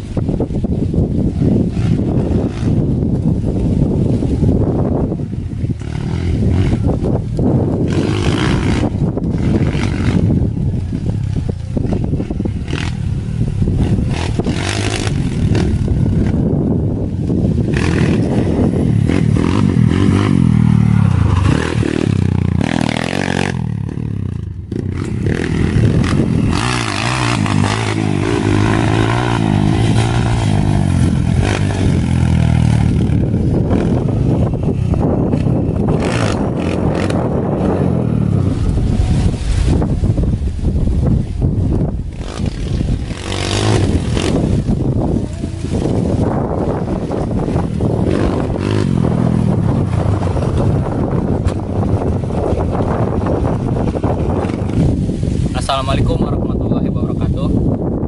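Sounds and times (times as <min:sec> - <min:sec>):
dirt bike engine revving: 0:01.2 - 0:56.2.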